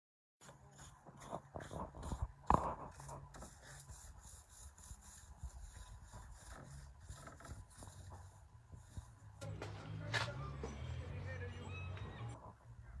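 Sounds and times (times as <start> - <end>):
stiff brush scraping wood: 0.4 - 11.2.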